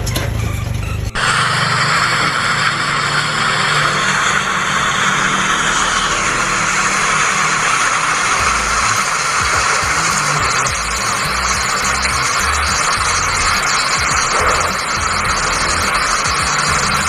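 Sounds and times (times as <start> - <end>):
car engine running: 0.0 - 17.0
steel wheels rushing noise: 0.0 - 17.0.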